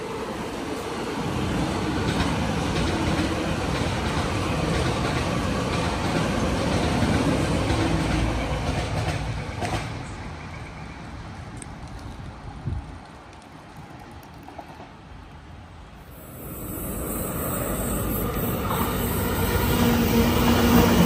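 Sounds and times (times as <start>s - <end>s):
train wheels rumbling on rail: 0.0s - 15.2s, 16.1s - 21.0s.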